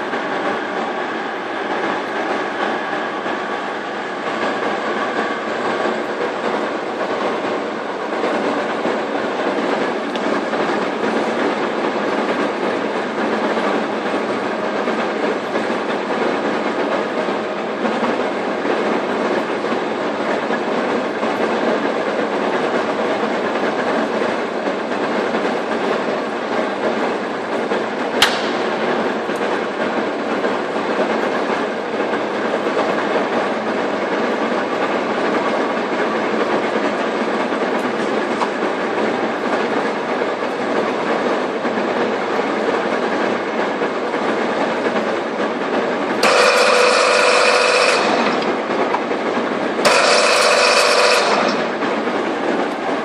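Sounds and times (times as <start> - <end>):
lathe mechanical rattle: 0.0 - 53.0.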